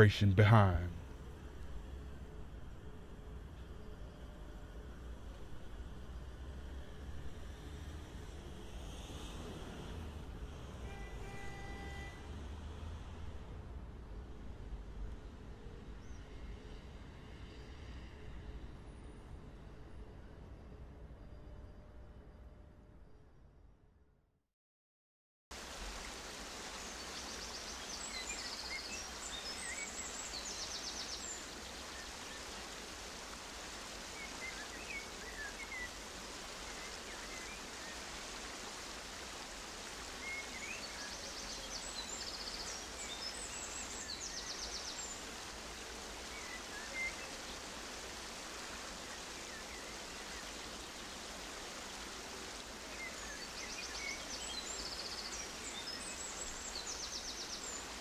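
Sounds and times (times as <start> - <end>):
rushing hiss ambience: 0.0 - 20.9, 25.6 - 58.0.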